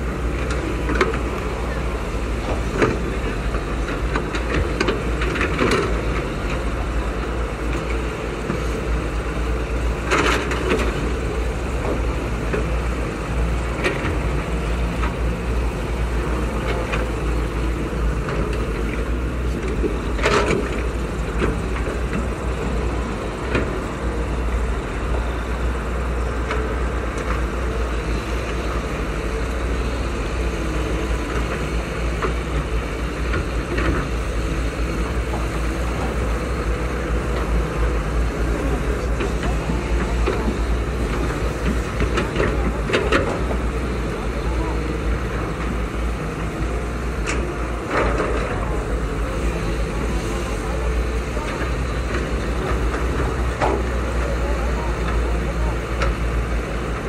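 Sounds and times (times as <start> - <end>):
excavator diesel engines running: 0.0 - 57.0.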